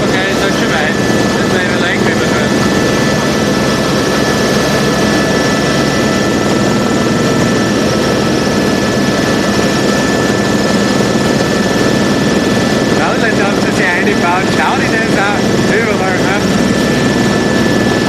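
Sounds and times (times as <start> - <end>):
helicopter engine and rotor noise: 0.0 - 18.0.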